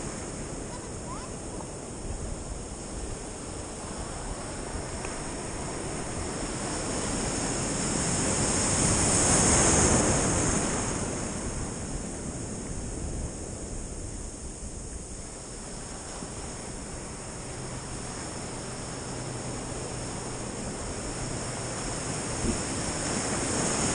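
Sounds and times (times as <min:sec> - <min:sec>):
ocean wave rushing: 0:00.0 - 0:14.2, 0:15.3 - 0:23.9.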